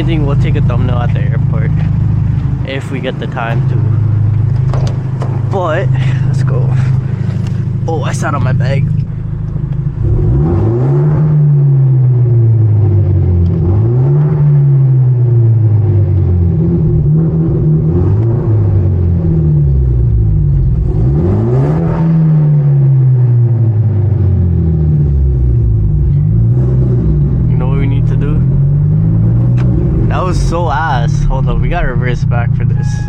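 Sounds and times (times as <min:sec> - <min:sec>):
car engine pulling away: 0:00.0 - 0:33.0.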